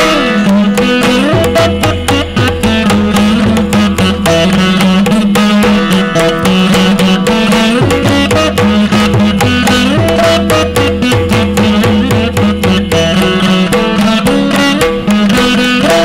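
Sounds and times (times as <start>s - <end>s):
hand drum strokes: 0.0s - 16.0s
veena melody with bent notes: 0.0s - 16.0s.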